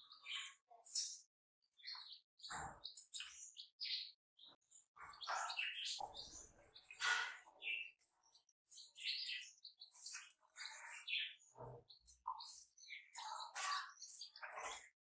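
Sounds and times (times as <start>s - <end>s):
chicks peeping: 1.8s - 14.9s.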